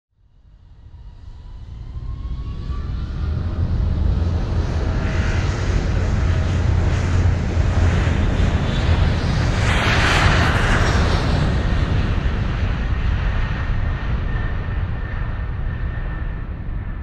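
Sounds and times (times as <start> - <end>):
airplane engine drone: 0.2 - 17.0
deep rumble: 0.9 - 17.0.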